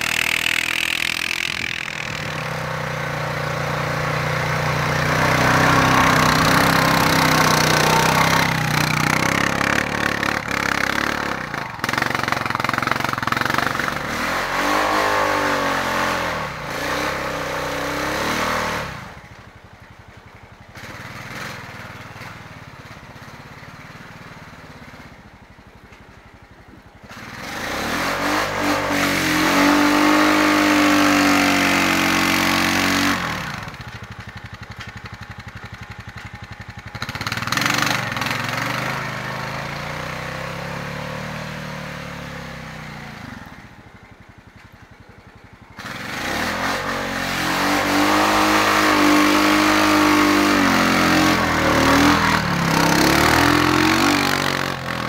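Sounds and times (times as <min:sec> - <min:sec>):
atv engine revving: 0:00.0 - 0:19.9, 0:20.6 - 0:55.0.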